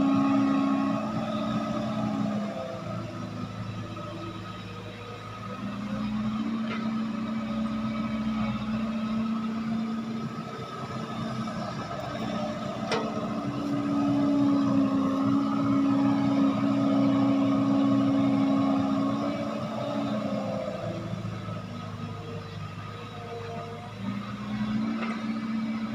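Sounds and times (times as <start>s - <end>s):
diesel machinery running: 0.0s - 25.9s.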